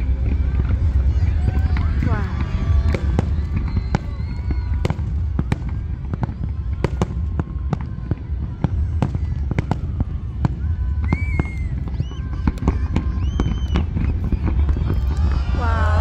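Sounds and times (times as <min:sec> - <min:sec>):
crowd voices: 0:00.0 - 0:16.0
deep continuous rumble: 0:00.0 - 0:16.0
distant fireworks bursting: 0:00.0 - 0:16.0.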